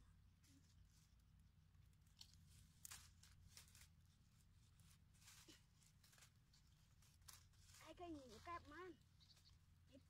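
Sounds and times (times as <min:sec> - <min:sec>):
dry leaves rustling and crackling: 0:00.5 - 0:10.0.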